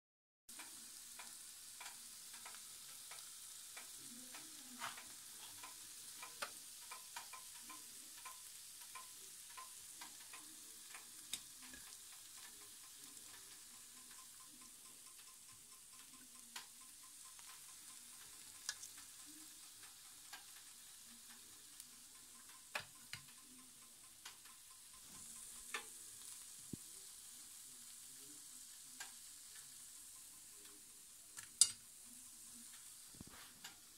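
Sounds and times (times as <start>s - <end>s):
skewers sizzling on a grill: 0.5s - 33.9s.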